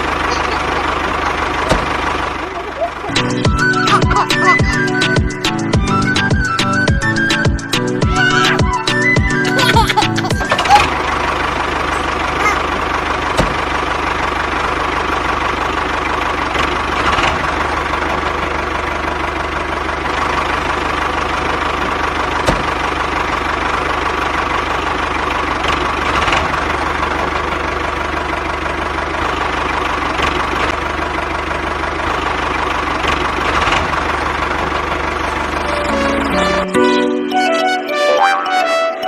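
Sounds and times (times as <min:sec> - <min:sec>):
small engine humming: 0:00.0 - 0:37.0.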